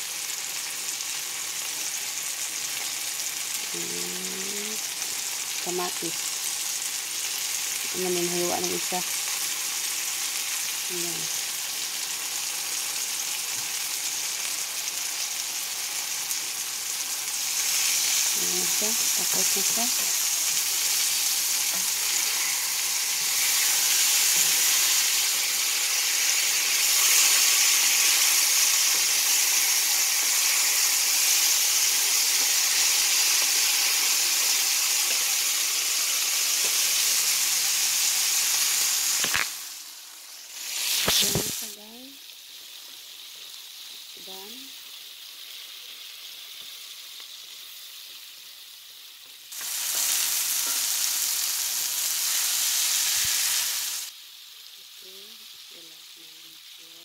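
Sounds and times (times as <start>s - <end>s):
vegetables sizzling in pan: 0.0s - 57.0s.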